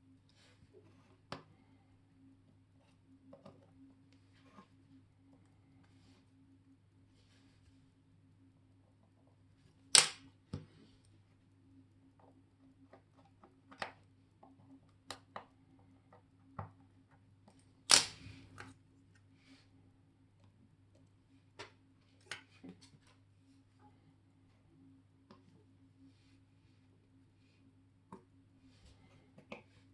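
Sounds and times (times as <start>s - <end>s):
faint steady hum: 0.0s - 29.9s.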